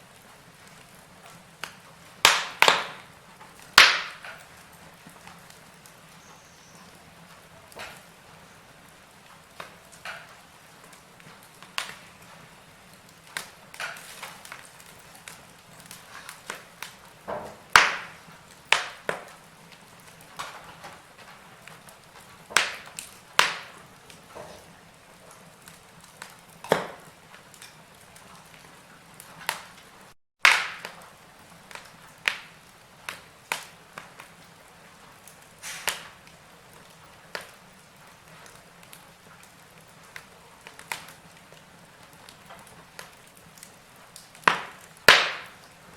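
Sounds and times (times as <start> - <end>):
fire hissing softly: 0.0 - 45.9
wood fire crackling: 0.0 - 45.9.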